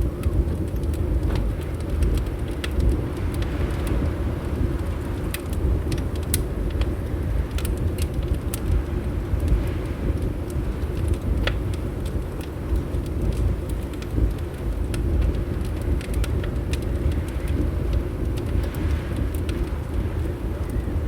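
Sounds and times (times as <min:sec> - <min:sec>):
fireplace crackling: 0:00.0 - 0:21.0
low rumble of wind: 0:00.0 - 0:21.0.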